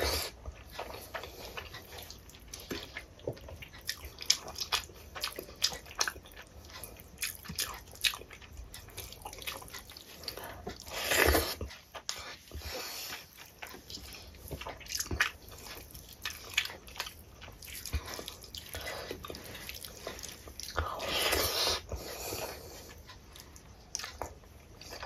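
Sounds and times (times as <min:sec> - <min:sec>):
wet chewing and lip smacks: 0:00.0 - 0:25.0.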